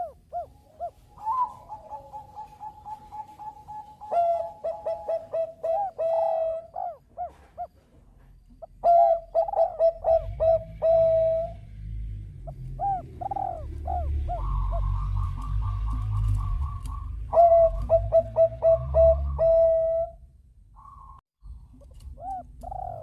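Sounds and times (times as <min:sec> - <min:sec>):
dove cooing: 0:00.0 - 0:07.9, 0:08.6 - 0:11.7, 0:12.4 - 0:20.2, 0:21.8 - 0:23.0.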